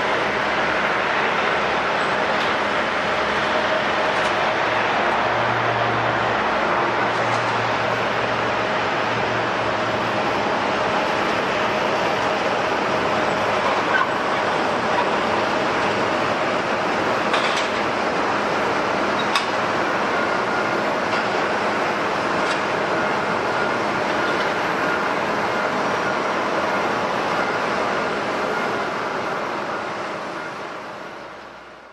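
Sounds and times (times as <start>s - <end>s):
jet engines roaring: 0.0s - 30.7s.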